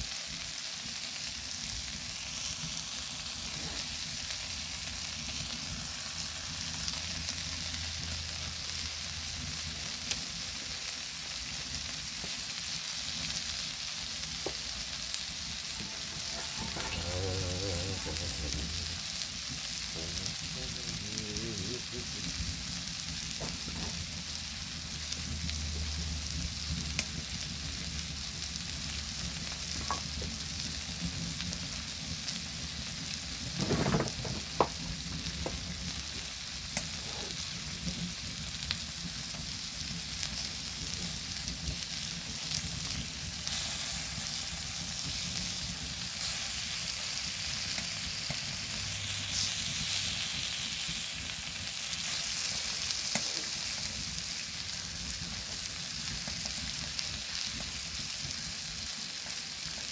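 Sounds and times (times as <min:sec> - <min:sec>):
meat sizzling on hot stone: 0:00.0 - 0:59.9.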